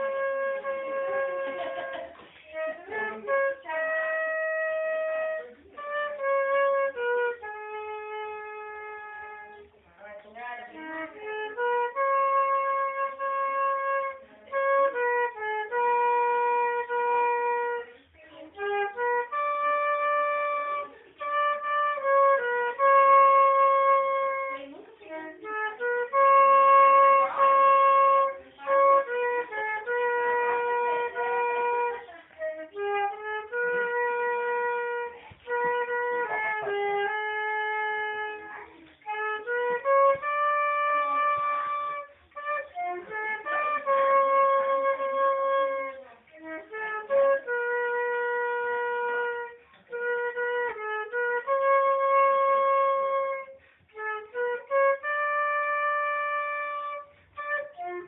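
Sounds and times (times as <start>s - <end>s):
flute playing slow melody: 0.0s - 9.8s, 10.7s - 58.0s.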